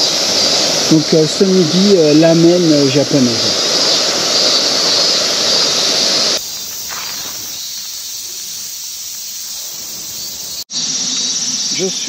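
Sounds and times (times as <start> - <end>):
gas stove burning with hiss: 0.0 - 12.0.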